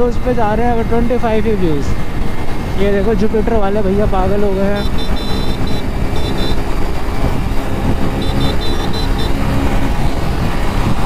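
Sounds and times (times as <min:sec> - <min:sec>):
motorcycle engine running: 0:00.0 - 0:11.0
traffic: 0:00.0 - 0:11.0
wind and road noise: 0:00.0 - 0:11.0.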